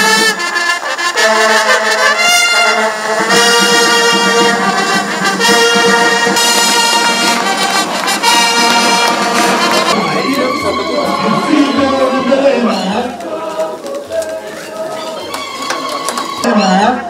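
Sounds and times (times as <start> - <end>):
brass band playing held chords: 0.0 - 17.0.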